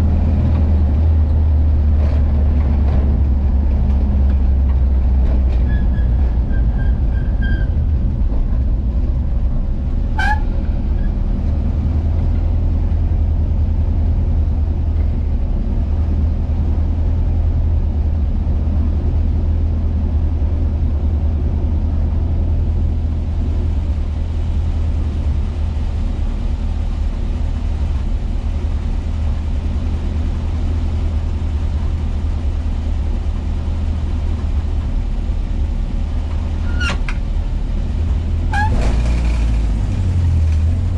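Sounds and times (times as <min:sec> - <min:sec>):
van engine low rumble: 0:00.0 - 0:40.9.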